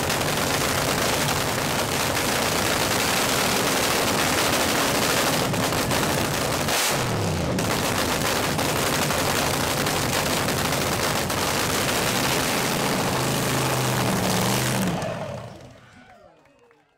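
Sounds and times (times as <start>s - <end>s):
drag car engine crackling idle: 0.0s - 15.9s.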